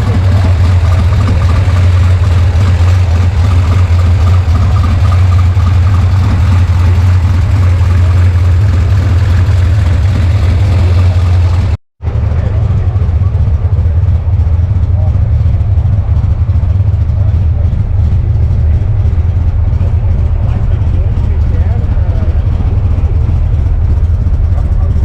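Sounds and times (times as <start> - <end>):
car engine idling with deep exhaust: 0.0 - 25.0.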